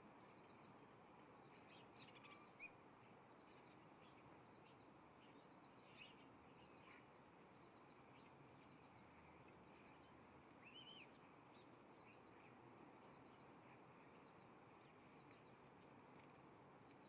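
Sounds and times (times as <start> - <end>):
steady low hiss: 0.0 - 17.0
birds chipping: 1.4 - 17.0.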